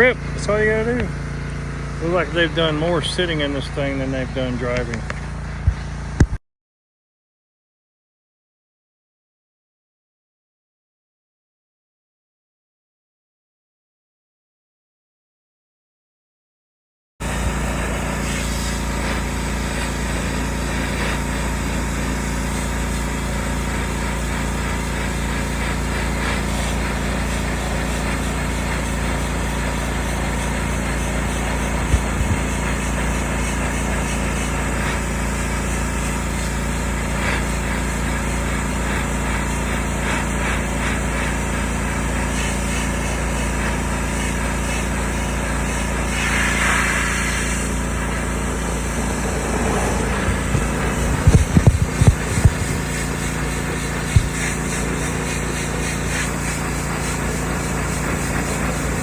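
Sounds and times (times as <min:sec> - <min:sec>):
small engine running: 0:00.0 - 0:06.3, 0:17.2 - 0:59.0.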